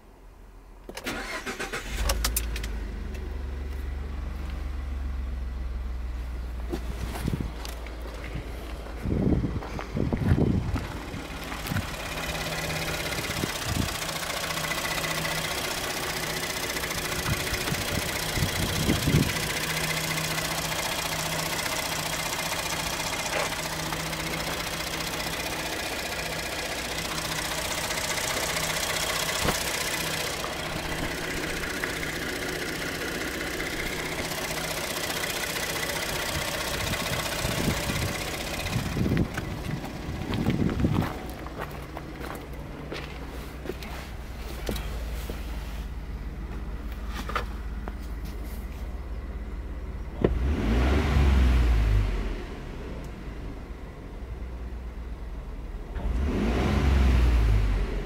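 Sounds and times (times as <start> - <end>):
car engine idling: 0.0 - 56.5.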